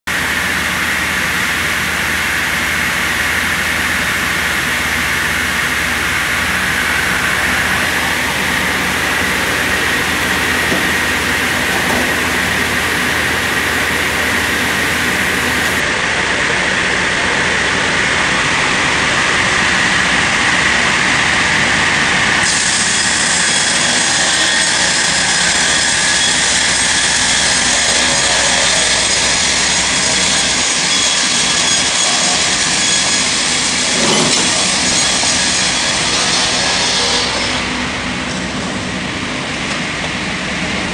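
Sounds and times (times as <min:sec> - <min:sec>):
sawmill machinery running: 0:00.1 - 0:40.9
high saw whine: 0:00.2 - 0:16.0, 0:21.6 - 0:38.6.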